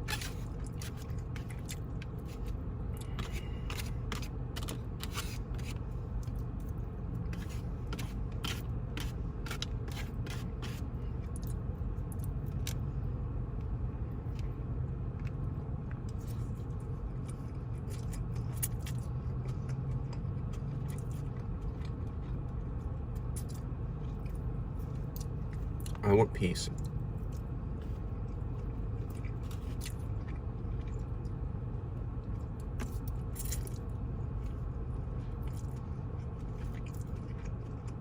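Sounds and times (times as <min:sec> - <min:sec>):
chewing and crunching: 0:00.0 - 0:38.0
steady low hum: 0:00.0 - 0:38.0.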